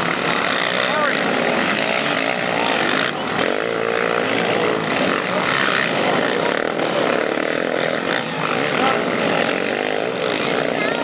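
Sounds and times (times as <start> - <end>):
quad bike engines revving: 0.0 - 11.0.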